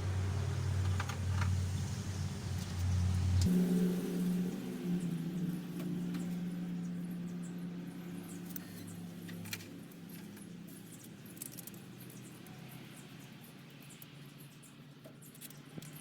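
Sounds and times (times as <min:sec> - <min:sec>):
vehicle engine hum: 0:00.0 - 0:14.5.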